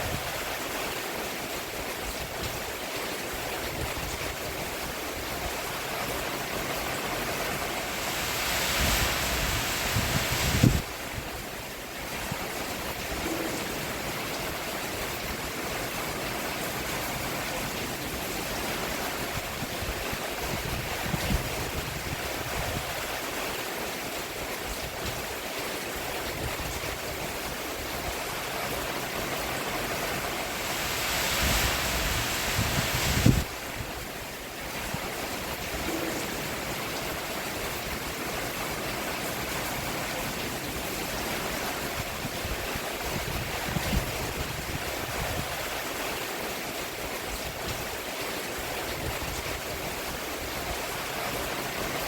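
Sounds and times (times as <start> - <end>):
rain falling on a roof: 0.0 - 52.0.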